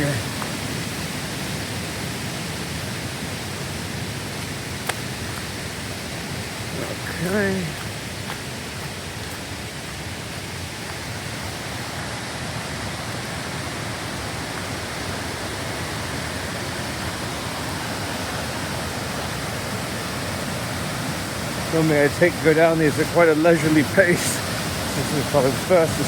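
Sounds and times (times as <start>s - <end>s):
waterfall and creek rushing: 0.0s - 26.0s.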